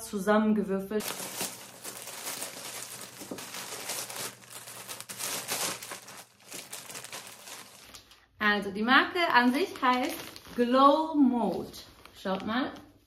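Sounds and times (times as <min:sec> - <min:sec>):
plastic bag crinkling: 0:01.0 - 0:08.3, 0:09.0 - 0:12.6.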